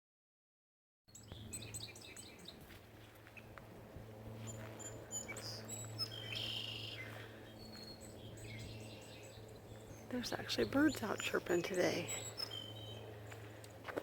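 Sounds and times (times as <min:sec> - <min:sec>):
songbirds chirping: 0:01.1 - 0:14.0
steady low hum: 0:01.1 - 0:14.0.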